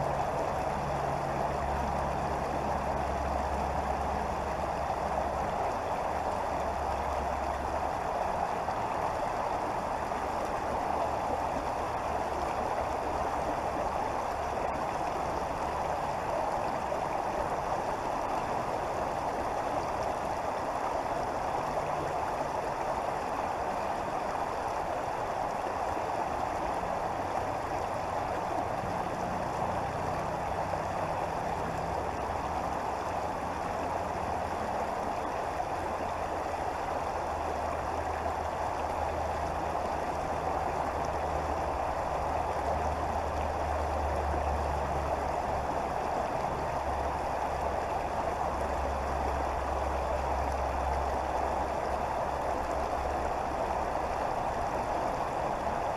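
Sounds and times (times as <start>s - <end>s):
creek water flowing over rocks: 0.0s - 55.9s.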